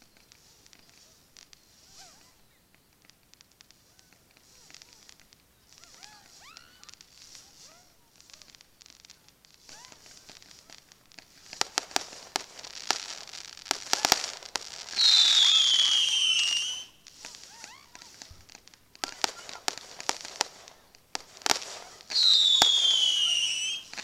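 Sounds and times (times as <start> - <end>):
firework bangs and crackles: 0.0 - 24.0
whistling firework: 0.0 - 24.0.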